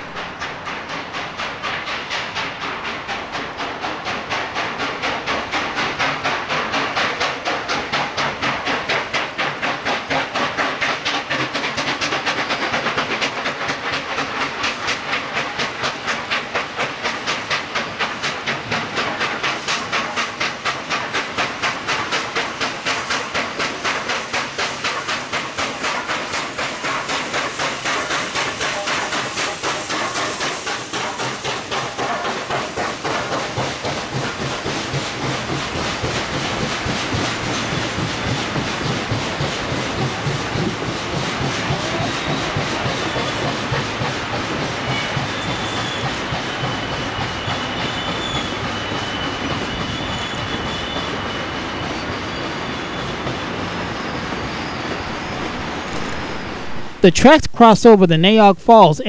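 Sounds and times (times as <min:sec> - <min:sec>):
steam hiss: 0:00.0 - 0:59.0
steam locomotive passing: 0:00.0 - 0:59.0.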